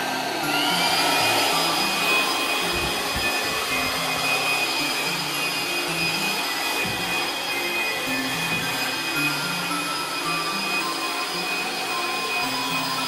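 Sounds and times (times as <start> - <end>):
pet dryer blower whining: 0.0 - 13.0.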